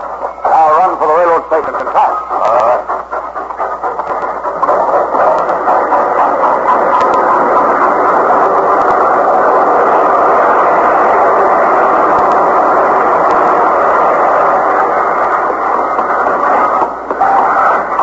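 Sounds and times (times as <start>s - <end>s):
train rushing past: 0.0s - 18.0s.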